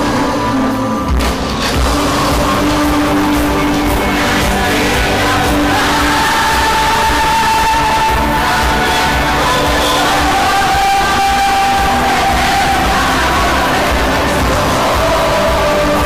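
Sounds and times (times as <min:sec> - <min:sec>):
music with held notes: 0:00.0 - 0:16.0
steady low beat: 0:01.1 - 0:16.0.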